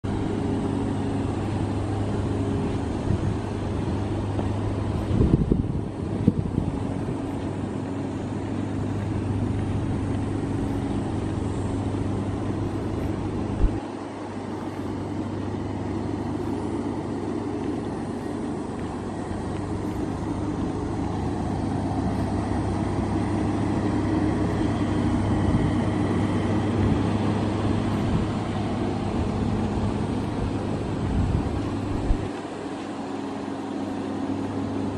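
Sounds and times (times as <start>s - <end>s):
outdoor noise: 0.0s - 34.9s
van engine idling: 0.0s - 34.9s.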